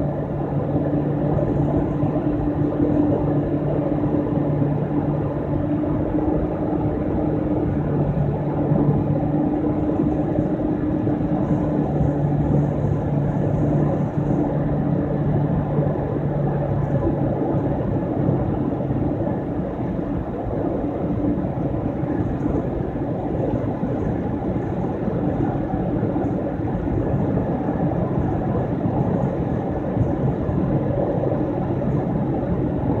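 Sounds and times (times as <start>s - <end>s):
car road noise from cabin: 0.0s - 33.0s.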